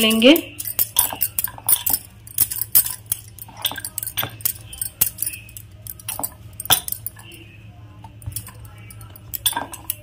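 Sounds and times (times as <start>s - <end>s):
bangles clinking: 0.0s - 10.0s.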